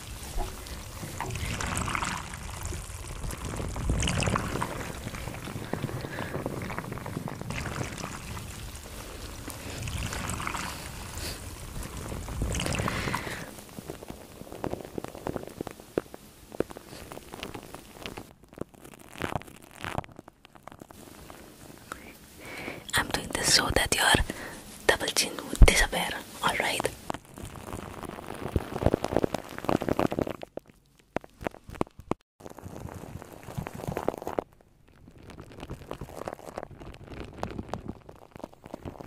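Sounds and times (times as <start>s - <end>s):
soft crackles and light clicks: 0.0s - 39.0s.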